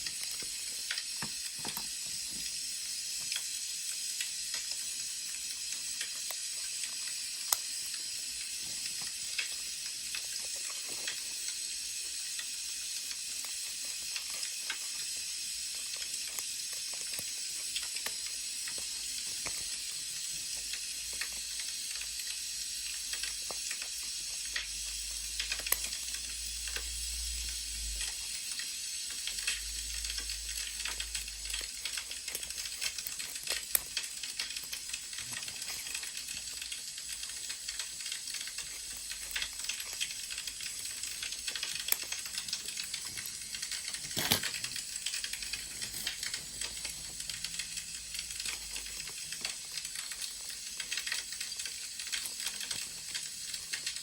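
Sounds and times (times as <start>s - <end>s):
wood fire crackling and popping: 0.0s - 26.9s, 27.9s - 54.0s.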